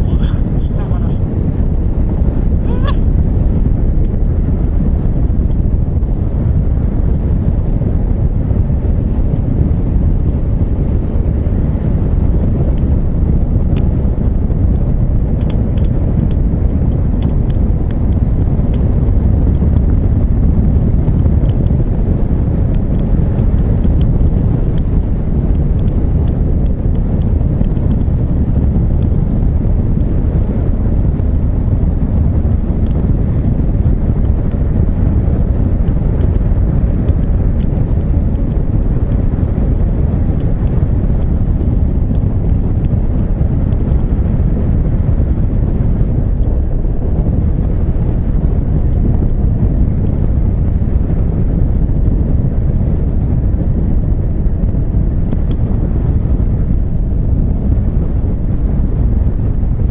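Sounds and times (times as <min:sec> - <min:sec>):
motorcycle engine cruising: 0:00.0 - 0:58.5
wind rush on microphone: 0:00.0 - 0:59.9.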